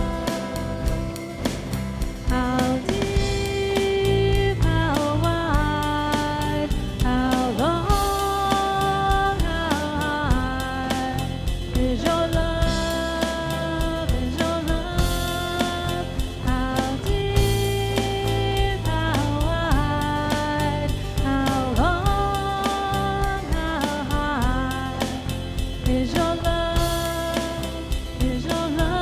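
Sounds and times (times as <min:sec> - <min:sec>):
band playing worship song: 0:00.0 - 0:29.0
bass: 0:00.0 - 0:29.0
drums: 0:00.0 - 0:29.0.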